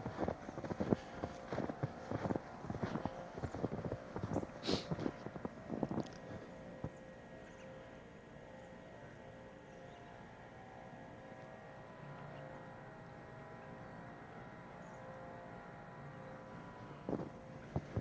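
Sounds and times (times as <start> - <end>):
faint background hum: 0.0 - 18.0.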